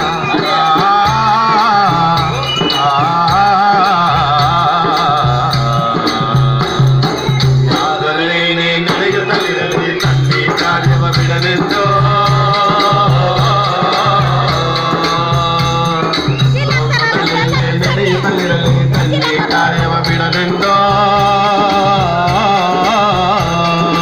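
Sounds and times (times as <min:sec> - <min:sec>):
hand drum beating: 0:00.0 - 0:08.2, 0:08.8 - 0:24.0
group singing folk song: 0:00.0 - 0:24.0.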